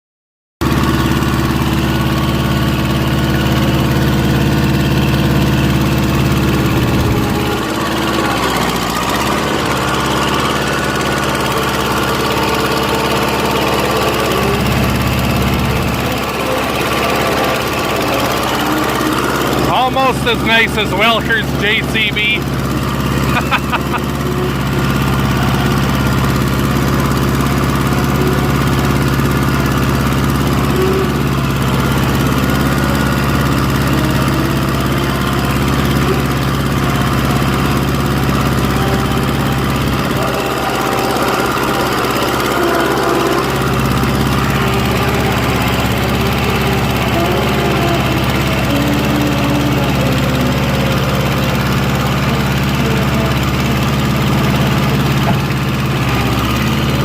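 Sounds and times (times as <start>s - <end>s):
engine humming steadily: 0.6s - 57.0s.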